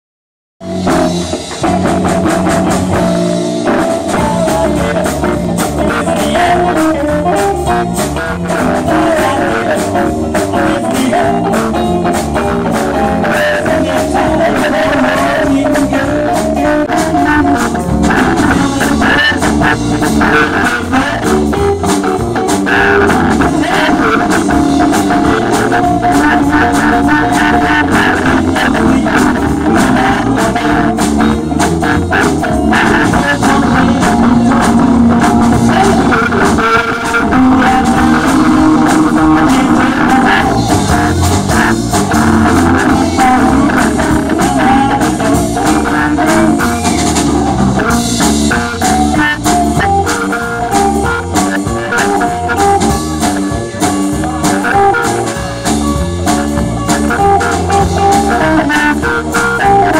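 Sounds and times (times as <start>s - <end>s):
drum kit: 0.6s - 59.9s
electric bass: 0.6s - 59.9s
electric guitar: 0.6s - 59.9s
man singing: 0.6s - 59.9s.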